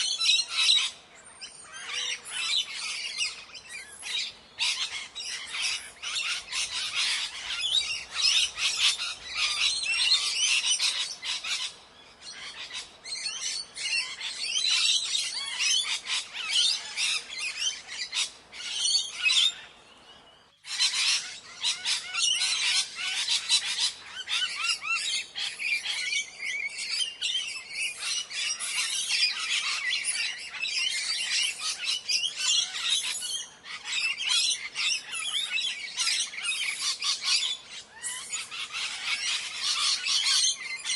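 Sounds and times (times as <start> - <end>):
parrots screeching and chattering: 1.6 - 11.7, 12.3 - 19.7, 20.7 - 40.9.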